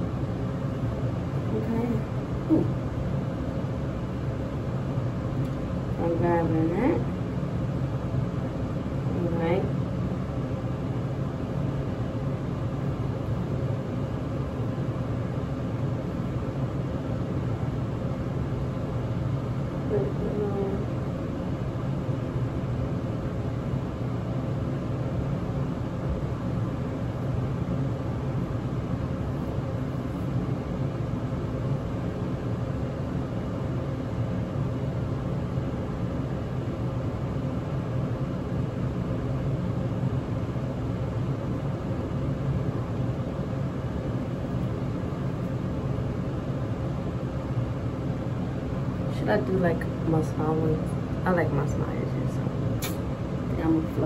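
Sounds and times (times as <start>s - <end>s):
low background hum and rumble: 0.0s - 54.0s.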